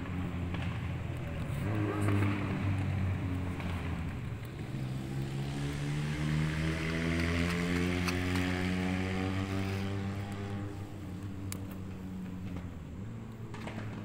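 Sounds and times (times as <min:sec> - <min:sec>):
motor engine droning past: 0:00.0 - 0:14.0.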